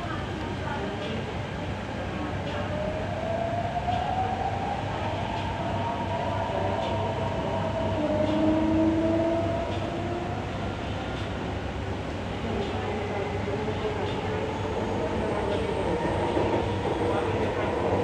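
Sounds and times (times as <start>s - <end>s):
faint train whine: 0.0s - 18.0s
train rumble inside carriage: 0.0s - 18.0s.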